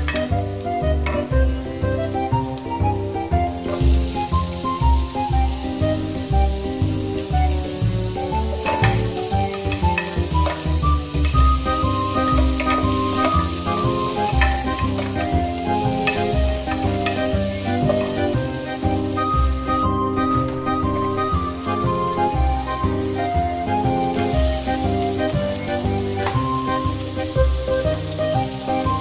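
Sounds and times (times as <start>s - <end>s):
background music with beat: 0.0s - 29.0s
onion sizzling in oil: 0.0s - 29.0s.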